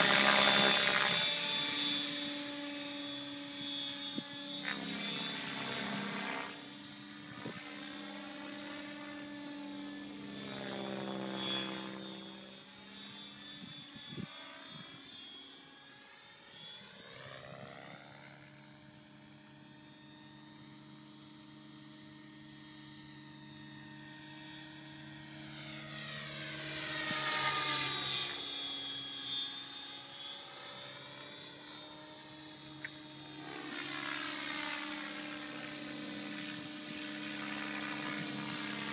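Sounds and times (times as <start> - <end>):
rc helicopter rotor whine: 0.0 - 38.9.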